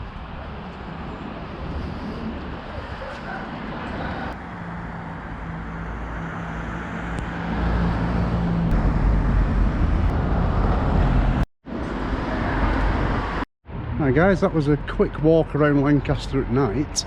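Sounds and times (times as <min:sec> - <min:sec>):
motor vehicle humming: 0:00.0 - 0:14.0.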